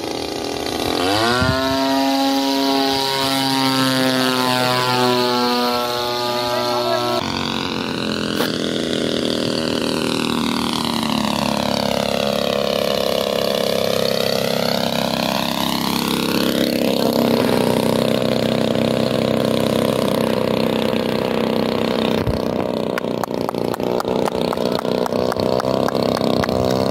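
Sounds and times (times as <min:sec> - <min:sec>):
model plane engine passing: 0:00.0 - 0:26.9.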